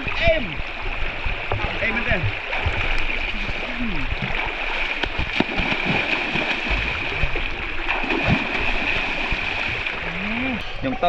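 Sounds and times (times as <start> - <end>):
water gurgling and splashing: 0.0 - 10.6.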